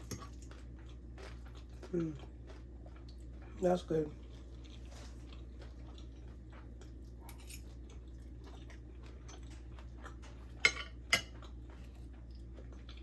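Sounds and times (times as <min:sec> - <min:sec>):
person chewing crisp food: 0:00.0 - 0:13.0.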